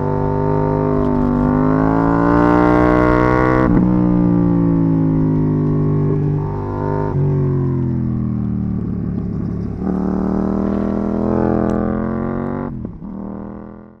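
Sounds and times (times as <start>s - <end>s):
motorcycle engine downshifting: 0.1s - 13.9s.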